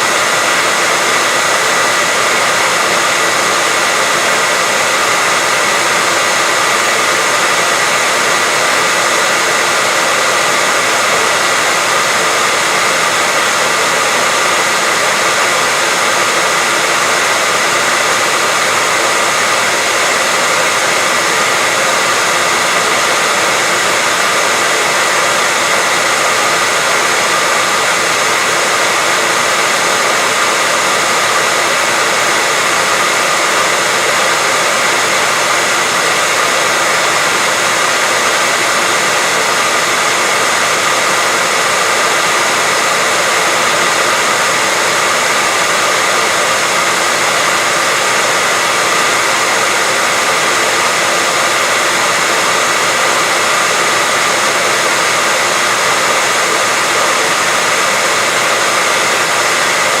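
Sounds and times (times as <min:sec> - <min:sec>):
white noise hiss: 0:00.0 - 1:00.0.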